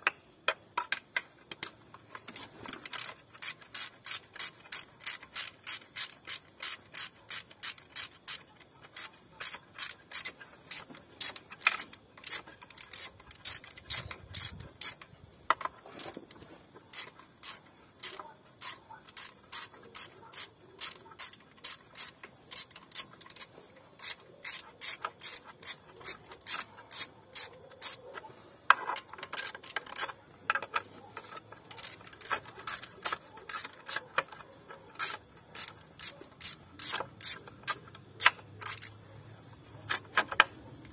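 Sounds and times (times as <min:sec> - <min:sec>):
ratchet wrench clicking: 0:00.8 - 0:28.1, 0:28.8 - 0:39.0.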